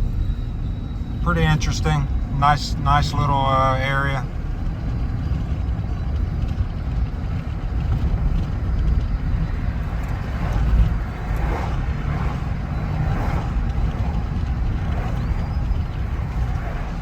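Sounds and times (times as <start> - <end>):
truck engine and tyre rumble: 0.0 - 17.0.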